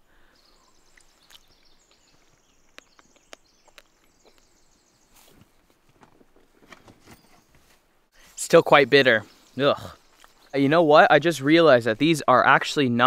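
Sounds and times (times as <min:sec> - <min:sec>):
distant birdsong: 0:00.0 - 0:13.0.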